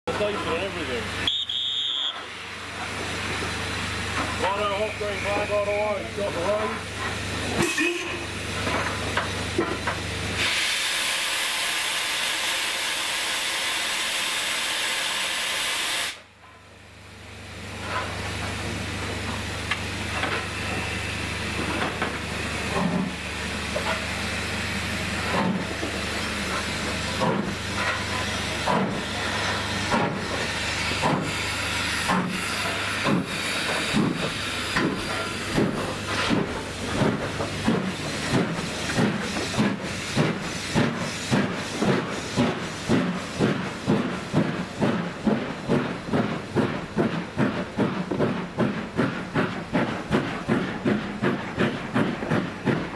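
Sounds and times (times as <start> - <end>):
loud steam hiss: 0.1 - 16.3, 18.6 - 46.8
steam locomotive chuffing: 0.1 - 52.9.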